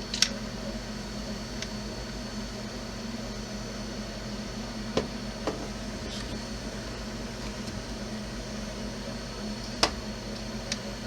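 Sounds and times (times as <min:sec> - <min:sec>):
fan droning hum: 0:00.0 - 0:11.0.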